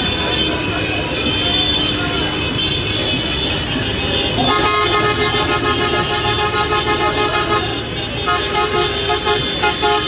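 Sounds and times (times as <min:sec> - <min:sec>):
car horns honking: 0:00.0 - 0:10.0
lower car horn: 0:00.0 - 0:10.0
noisy crowd: 0:00.0 - 0:10.0.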